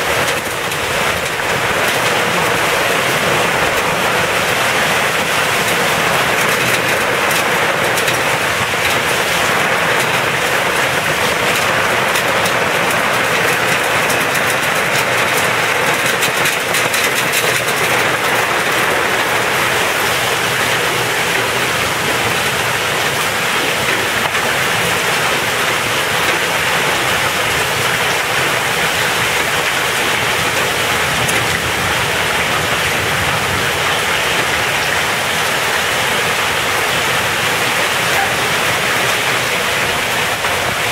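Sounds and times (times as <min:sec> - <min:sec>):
crackle of hard raindrops: 0:00.0 - 0:40.9
heavy rain pelting ground: 0:00.0 - 0:40.9.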